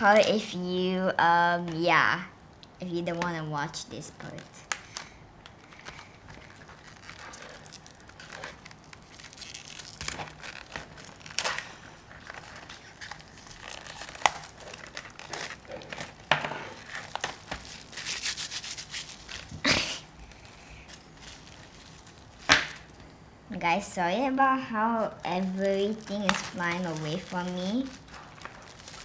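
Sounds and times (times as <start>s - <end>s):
plastic packaging crinkling: 0.0s - 0.9s, 2.4s - 23.1s, 25.0s - 29.0s.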